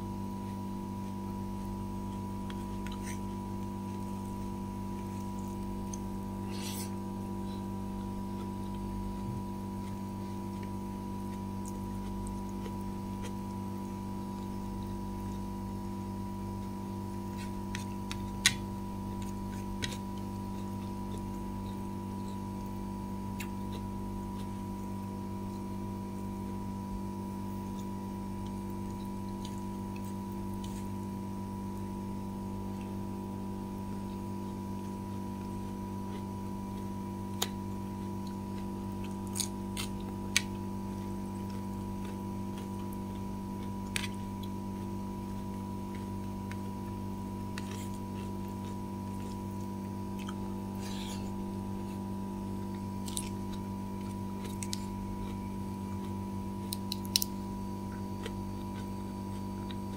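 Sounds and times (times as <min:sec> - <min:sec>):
low hum with overtones: 0:00.0 - 0:59.9.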